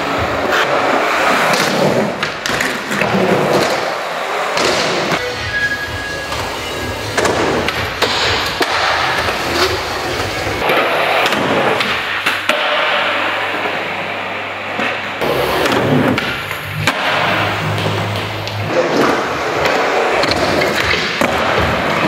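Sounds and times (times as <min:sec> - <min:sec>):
skateboard wheels rolling: 0:00.0 - 0:22.0.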